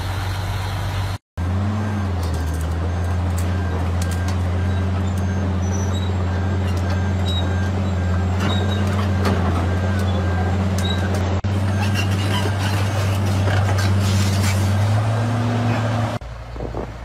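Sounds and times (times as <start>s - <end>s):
excavator diesel engine droning: 0.0s - 17.0s.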